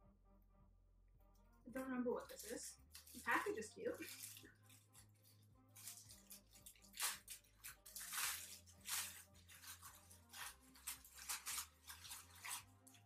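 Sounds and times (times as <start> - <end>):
plastic package crinkling and tearing: 2.2 - 13.0.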